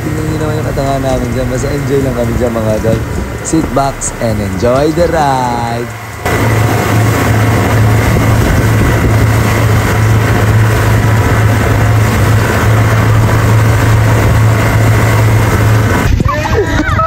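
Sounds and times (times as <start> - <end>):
motorboat engine running: 0.0 - 17.0
water rushing from boat wake: 0.0 - 17.0.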